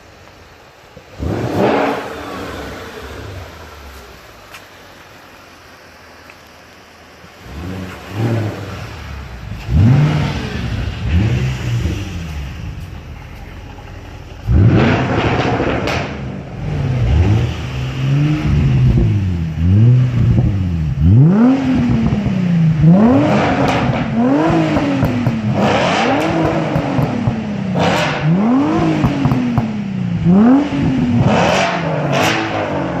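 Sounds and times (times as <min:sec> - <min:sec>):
car engine revving: 0:00.6 - 0:33.0.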